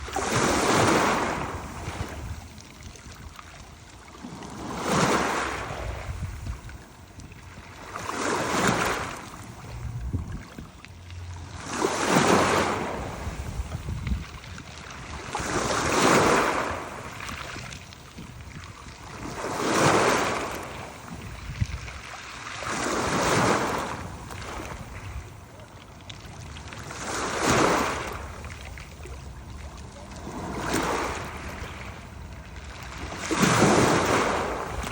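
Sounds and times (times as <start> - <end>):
sea waves washing in: 0.0 - 34.9.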